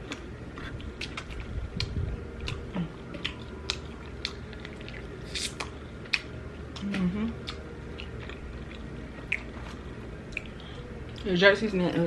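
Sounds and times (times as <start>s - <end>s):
chewing with wet mouth sounds: 0.0s - 11.4s.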